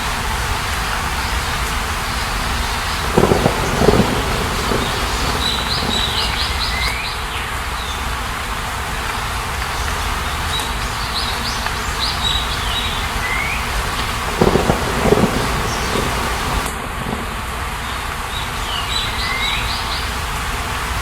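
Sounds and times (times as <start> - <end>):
steady rushing noise: 0.0 - 19.0
birds calling: 0.8 - 8.2, 9.2 - 20.3.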